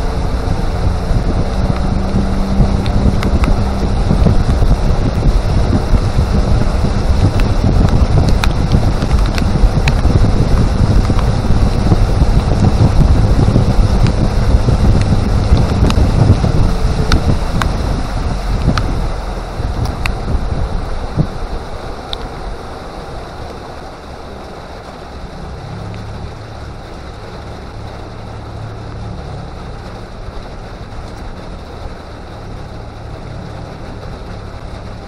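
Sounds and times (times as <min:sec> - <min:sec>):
boat rumbling through water: 0:00.0 - 0:35.0
wind buffeting microphone: 0:00.0 - 0:35.0.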